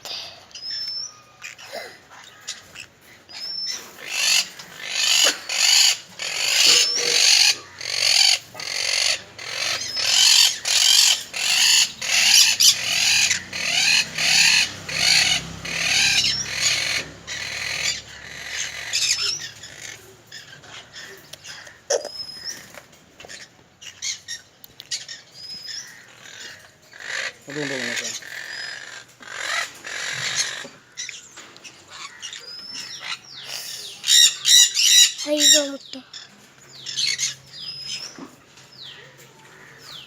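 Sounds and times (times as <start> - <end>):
parrot screeching squawks: 0.6 - 22.7, 23.3 - 36.3.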